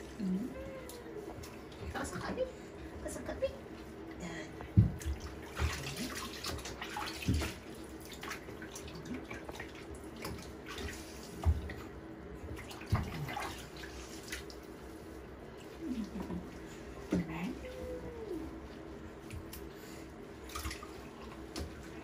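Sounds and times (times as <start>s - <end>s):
bathwater splashing and dripping: 0.0s - 22.0s.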